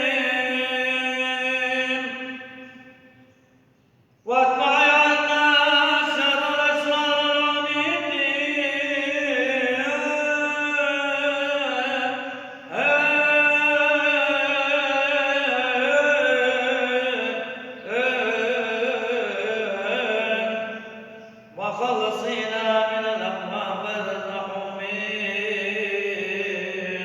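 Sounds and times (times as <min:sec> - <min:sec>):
man chanting a prayer: 0:00.0 - 0:03.0, 0:04.3 - 0:27.0.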